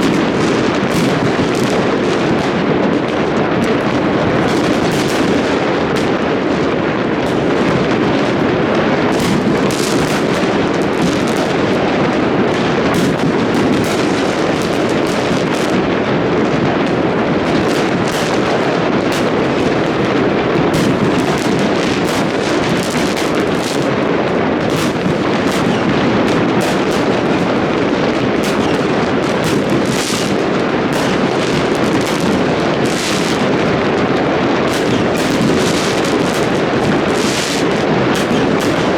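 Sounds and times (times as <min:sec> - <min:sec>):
fireworks bangs and crackles: 0:00.0 - 0:38.9
sharp firework cracks: 0:00.0 - 0:38.9.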